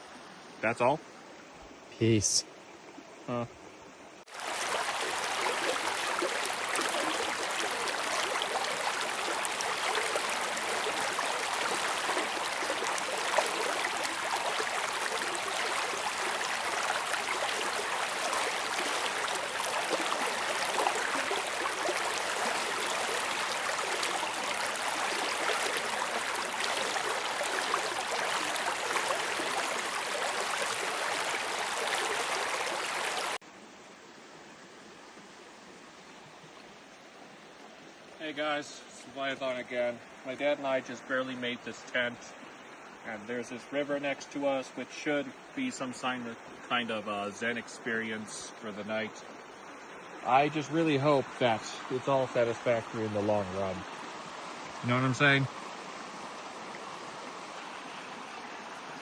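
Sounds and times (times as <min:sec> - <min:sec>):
river flowing: 0:04.3 - 0:59.0.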